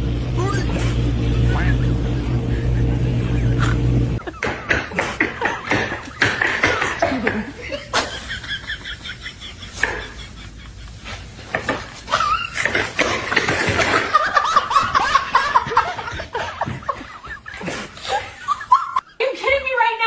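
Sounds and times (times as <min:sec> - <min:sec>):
person snickering and giggling: 0:02.1 - 0:19.2.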